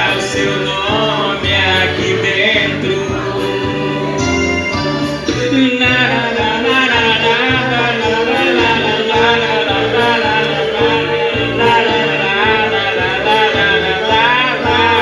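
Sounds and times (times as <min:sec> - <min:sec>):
live band love song: 0:00.0 - 0:15.0
steady bass beat: 0:00.0 - 0:15.0.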